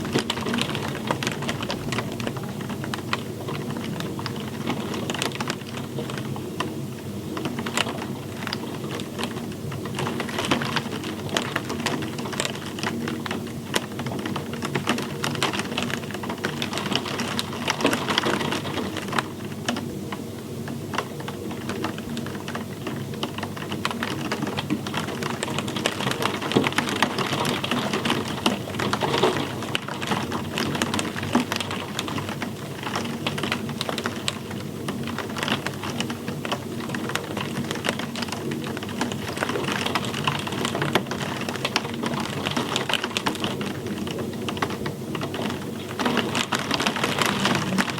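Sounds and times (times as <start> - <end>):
rain pattering on hard surface: 0.0 - 47.9.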